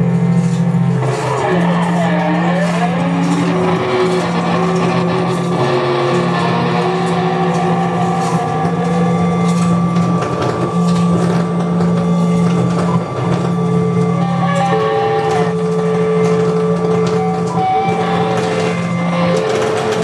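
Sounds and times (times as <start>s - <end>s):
dense electronic noise: 0.0s - 20.0s
heavy low electronic drone: 0.0s - 20.0s
held high electronic tones: 1.2s - 20.0s.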